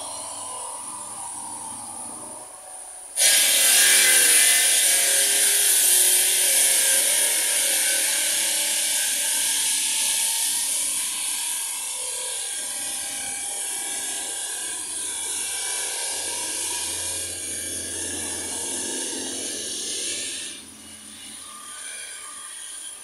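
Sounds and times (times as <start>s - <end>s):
cutting machine whine and hiss: 0.0s - 23.0s.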